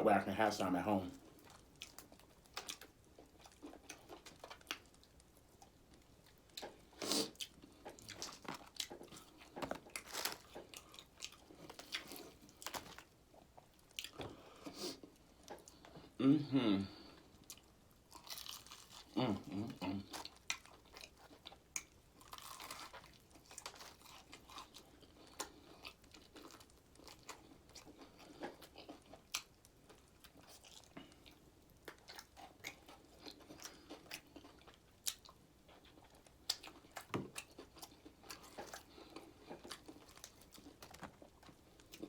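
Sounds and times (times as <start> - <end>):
person chewing crunchy food: 1.1 - 16.2, 17.0 - 42.0.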